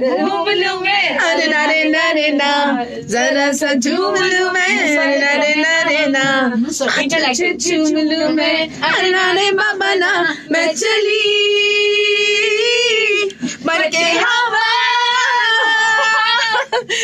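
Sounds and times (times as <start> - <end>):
woman singing unaccompanied: 0.0 - 16.6.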